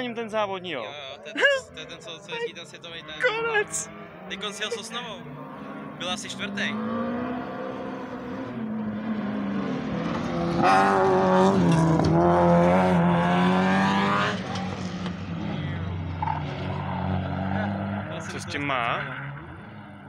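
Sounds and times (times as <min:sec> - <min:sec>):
race car engine revving past: 0:03.6 - 0:20.0.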